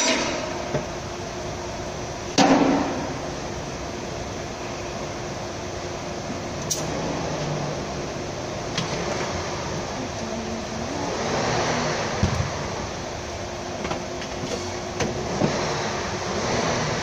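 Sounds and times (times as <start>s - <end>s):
electric fans whooshing: 0.0s - 17.0s.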